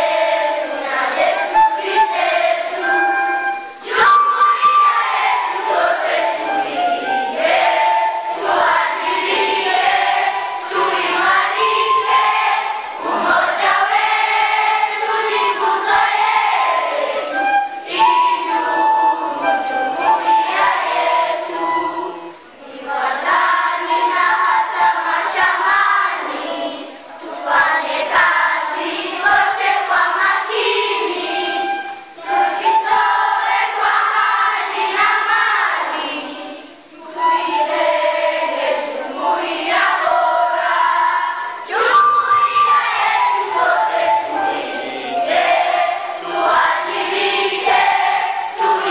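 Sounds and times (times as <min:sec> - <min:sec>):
children singing in chorus: 0:00.0 - 0:48.9.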